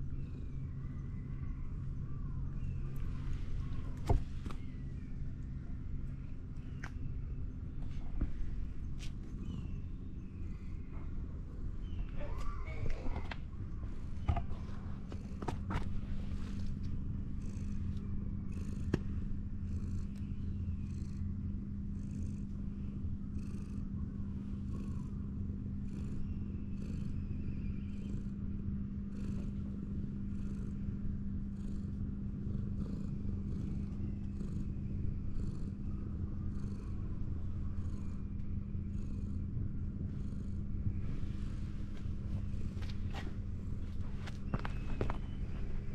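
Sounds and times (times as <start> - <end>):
cat purring: 2.1 - 45.9.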